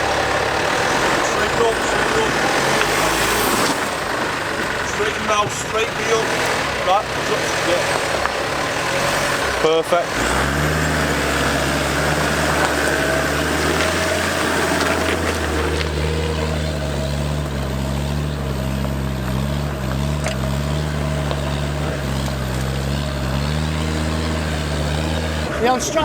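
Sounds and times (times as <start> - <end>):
vehicle engine running at low revs: 0.0 - 26.0.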